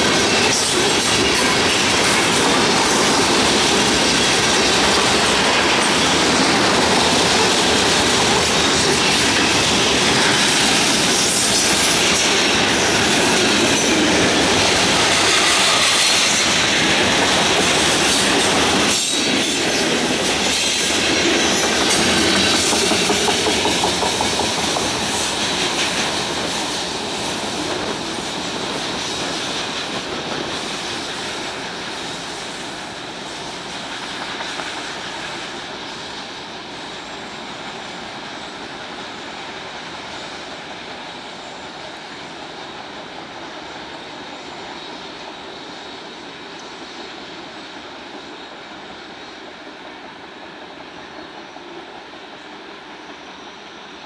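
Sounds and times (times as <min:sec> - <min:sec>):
freight train wheels clattering on rails: 0:00.0 - 0:49.9.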